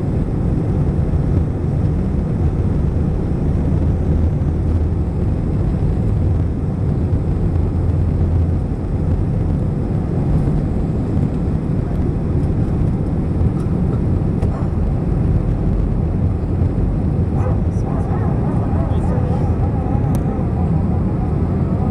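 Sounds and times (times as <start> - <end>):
airplane cabin engine rumble: 0.0 - 21.9.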